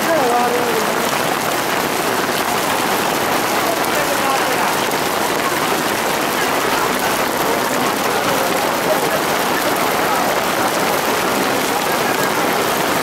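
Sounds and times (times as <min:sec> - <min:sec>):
hail and rain pelting ground: 0:00.0 - 0:13.0.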